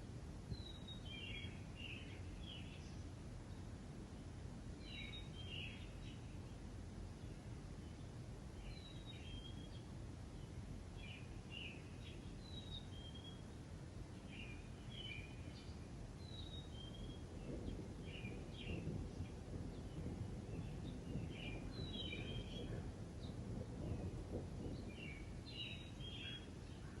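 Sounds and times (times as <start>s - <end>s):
small birds chirping: 0.5s - 6.6s, 7.2s - 27.0s.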